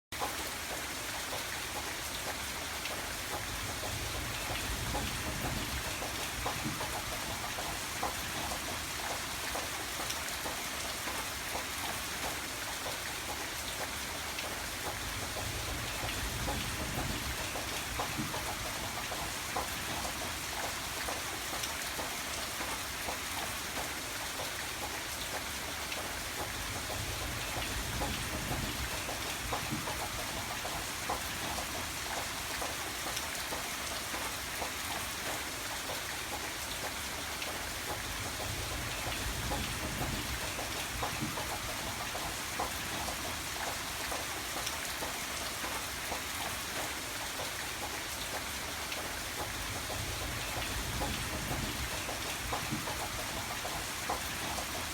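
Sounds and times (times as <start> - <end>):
rain drops pattering: 0.1 - 54.9.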